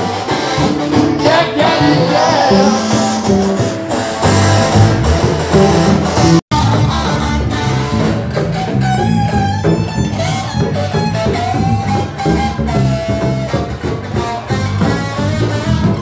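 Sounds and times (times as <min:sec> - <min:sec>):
strummed guitar: 0:00.0 - 0:16.0.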